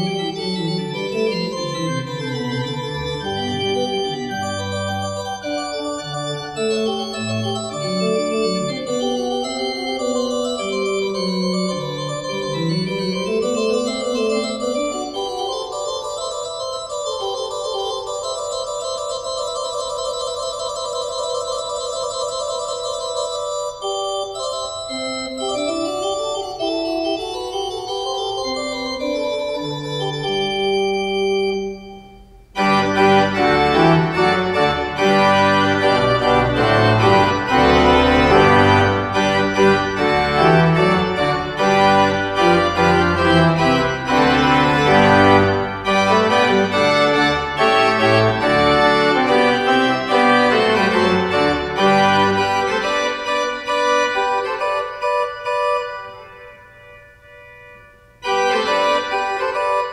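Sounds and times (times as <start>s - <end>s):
pipe organ playing chords: 0.0s - 59.9s.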